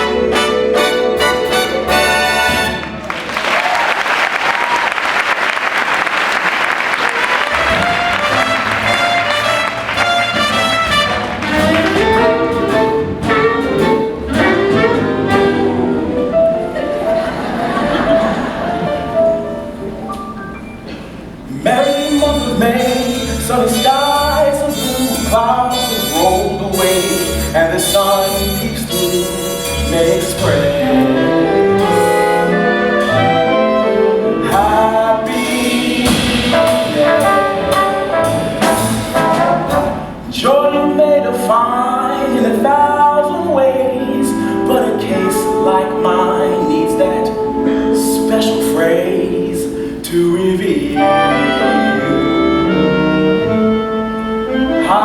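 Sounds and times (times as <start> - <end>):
jazz band with horns: 0.0 - 55.0.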